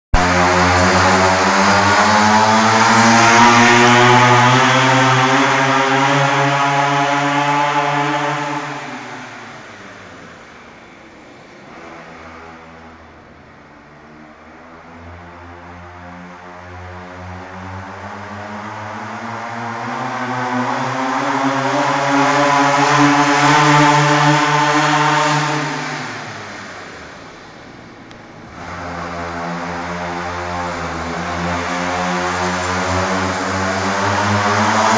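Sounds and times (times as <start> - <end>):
small engine running: 0.2 - 13.1, 13.7 - 34.9.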